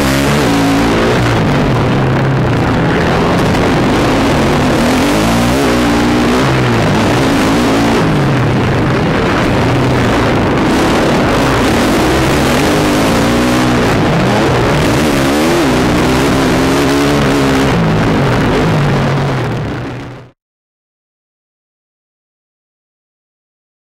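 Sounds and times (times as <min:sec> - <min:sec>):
motocross bike engine revving: 0:00.0 - 0:20.0
steady loud rush of noise: 0:00.0 - 0:20.4.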